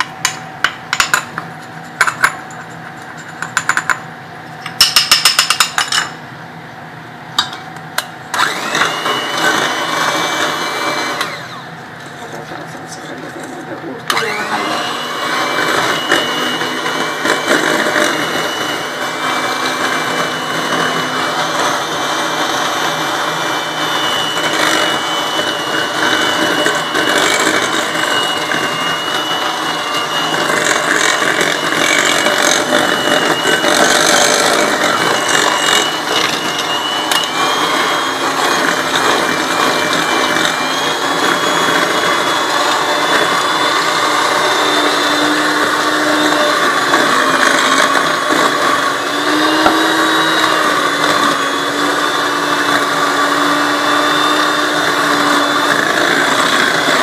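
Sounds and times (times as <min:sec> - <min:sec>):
electric mixer running: 0:07.4 - 0:57.0.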